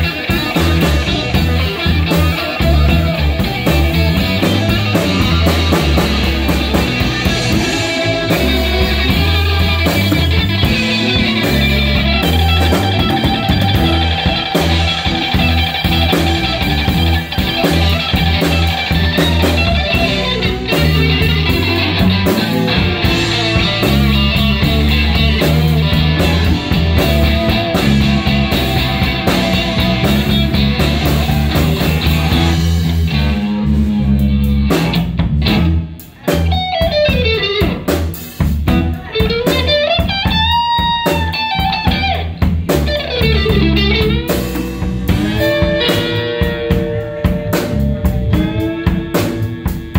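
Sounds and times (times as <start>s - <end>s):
bass guitar line: 0.0s - 49.9s
drum kit: 0.0s - 49.9s
electric guitars: 0.0s - 49.9s.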